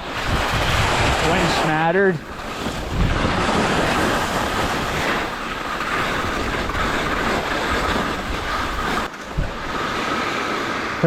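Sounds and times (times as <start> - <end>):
skis scraping over snow: 0.0 - 11.0.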